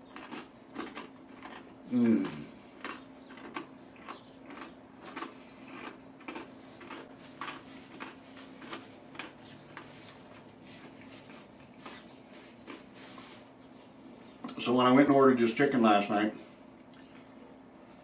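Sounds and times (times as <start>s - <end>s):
chewing crispy fried chicken: 0.0s - 14.6s.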